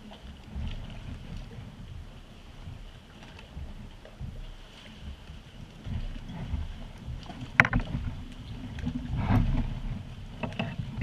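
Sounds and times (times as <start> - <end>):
water sloshing around kayak: 0.0 - 11.0
wind rumbling on microphone: 0.0 - 11.0.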